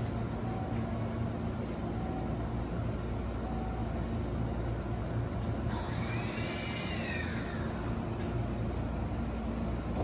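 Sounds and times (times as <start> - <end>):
electric train humming: 0.0 - 10.0.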